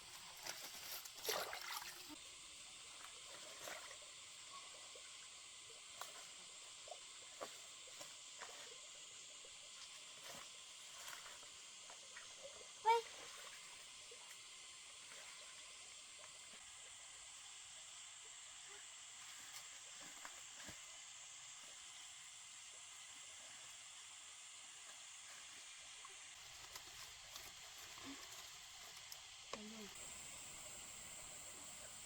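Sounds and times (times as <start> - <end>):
faint high hiss: 0.0 - 32.0.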